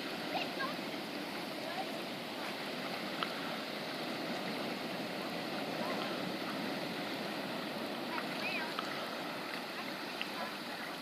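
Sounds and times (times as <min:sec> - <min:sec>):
lapping water: 0:00.0 - 0:11.0
wind: 0:00.0 - 0:11.0.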